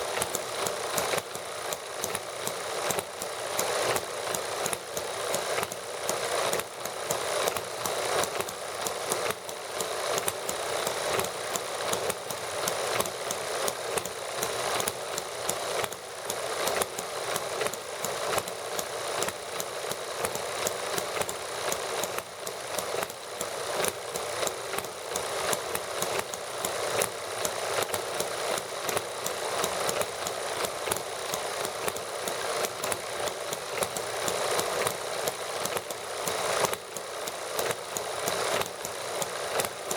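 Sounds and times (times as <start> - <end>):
small model gasoline engines running: 0.0 - 39.9.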